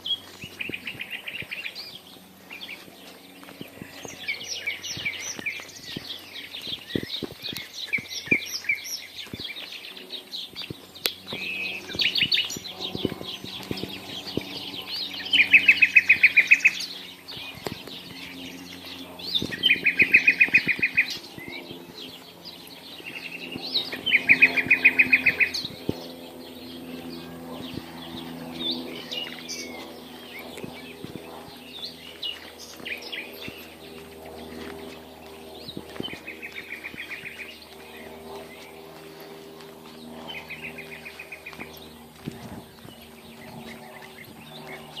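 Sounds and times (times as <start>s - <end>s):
bird chirps and calls: 0.0s - 45.0s
bird trilling: 0.0s - 45.0s.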